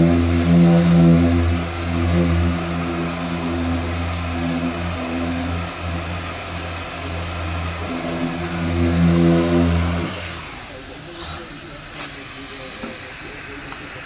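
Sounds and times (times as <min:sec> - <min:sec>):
machine sander running: 0:00.0 - 0:14.0.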